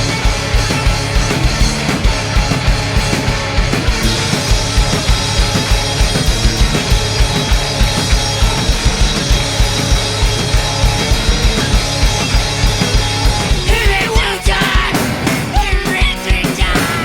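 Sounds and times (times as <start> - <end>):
distorted electric guitars: 0.0 - 17.0
fast kick drum beat: 0.0 - 17.0
live rock band playing: 0.0 - 17.0.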